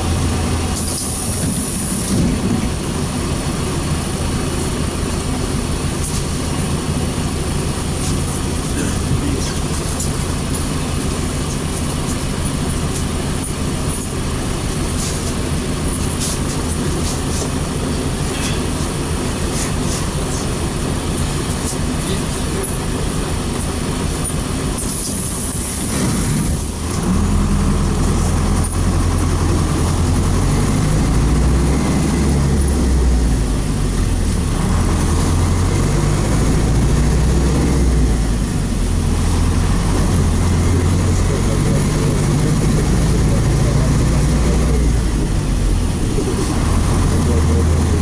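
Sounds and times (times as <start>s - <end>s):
bus engine droning: 0.0s - 48.0s
road and tyre noise: 0.0s - 48.0s.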